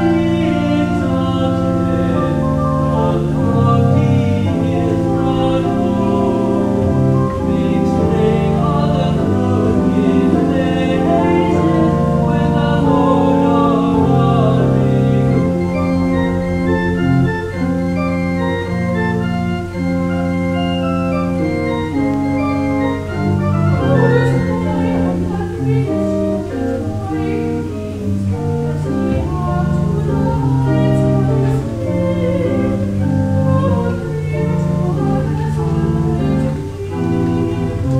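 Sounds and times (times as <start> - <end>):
church organ holding chords: 0.0 - 37.9.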